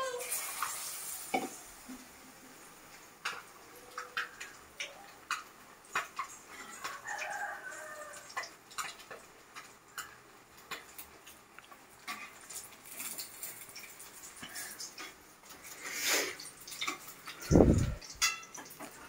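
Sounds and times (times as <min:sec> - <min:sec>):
fritters frying in hot oil: 0:00.0 - 0:19.0.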